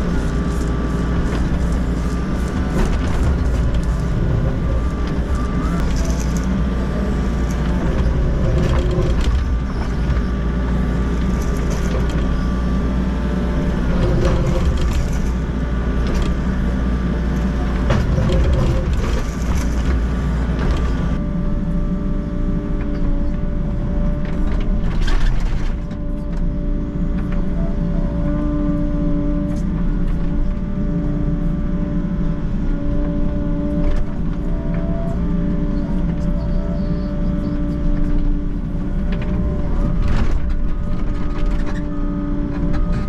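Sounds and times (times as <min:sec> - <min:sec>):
excavator diesel engine and hydraulics: 0:00.0 - 0:43.0.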